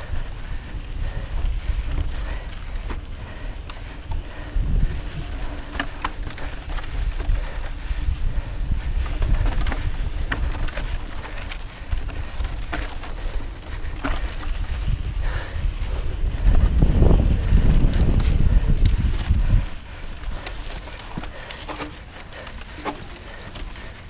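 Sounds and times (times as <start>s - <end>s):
bike rattling over rough trail: 0.0s - 24.0s
wind buffeting microphone: 0.0s - 24.0s.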